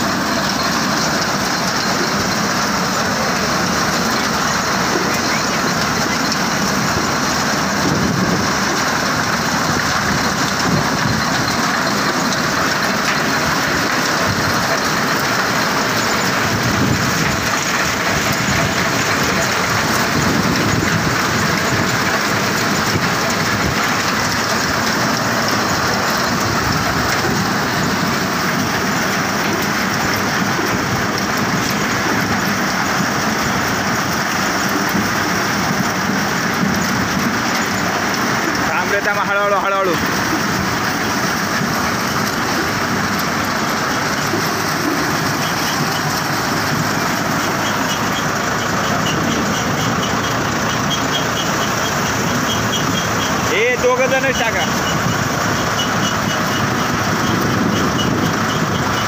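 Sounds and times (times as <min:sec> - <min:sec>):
thresher machine clattering: 0:00.0 - 0:59.0.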